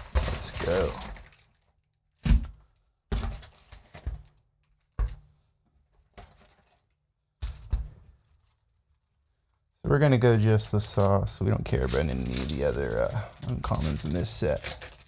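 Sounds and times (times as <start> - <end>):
foil wrappers rustling: 0.0 - 5.1, 6.0 - 15.0.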